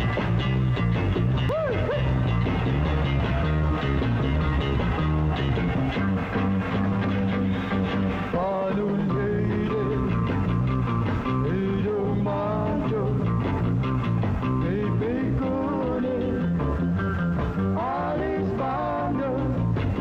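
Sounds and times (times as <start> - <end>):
pop band playing live: 0.0 - 20.0
swooping sliding guitar notes: 0.0 - 20.0.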